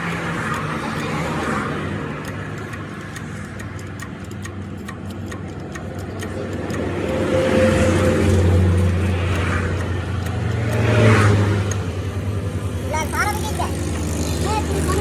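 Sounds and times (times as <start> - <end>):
quick regular ticking: 0.0 - 15.0
truck engine running: 0.0 - 15.0.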